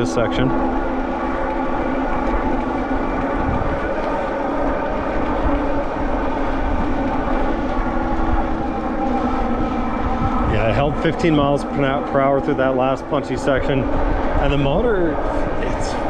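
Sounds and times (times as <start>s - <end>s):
electric bike motor whining: 0.0s - 16.0s
low rumble: 0.0s - 16.0s.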